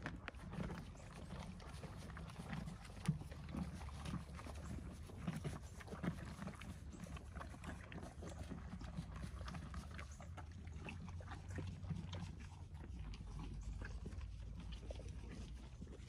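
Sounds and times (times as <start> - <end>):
horses crunching grain: 0.0 - 16.0.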